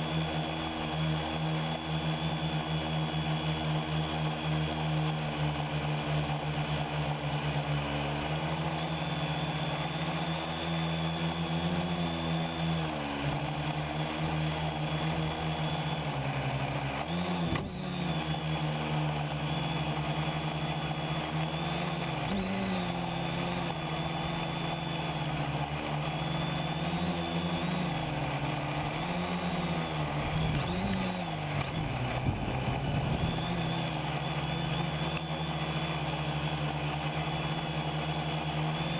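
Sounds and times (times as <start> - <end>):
drone propellers buzzing: 0.0 - 38.9
high whine: 0.0 - 38.9.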